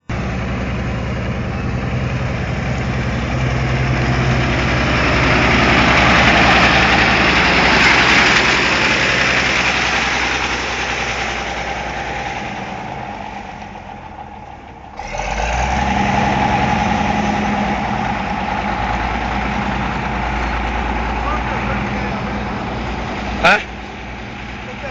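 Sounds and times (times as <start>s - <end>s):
heavy machinery engine running: 0.0s - 24.9s.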